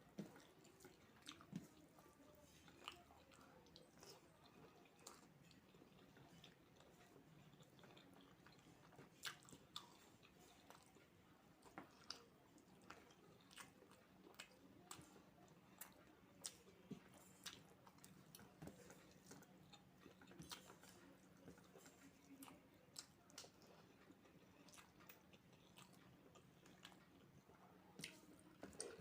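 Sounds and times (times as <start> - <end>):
person chewing: 0.1 - 29.0.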